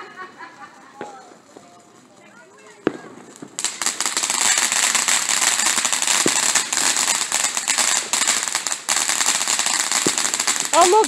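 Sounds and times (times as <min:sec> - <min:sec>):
ground firework crackling: 0:00.0 - 0:11.0.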